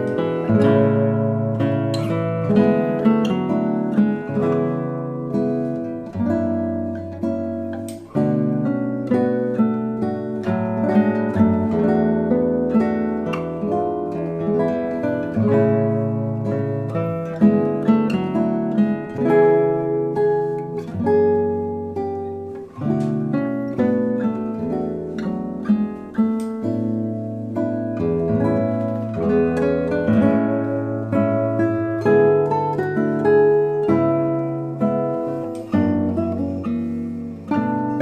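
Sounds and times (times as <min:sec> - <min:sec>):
acoustic guitar instrumental: 0:00.0 - 0:38.0.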